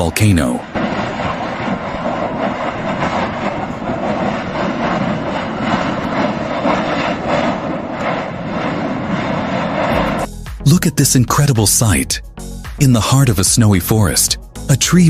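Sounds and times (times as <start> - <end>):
volcano eruption rushing noise: 0.0 - 12.1.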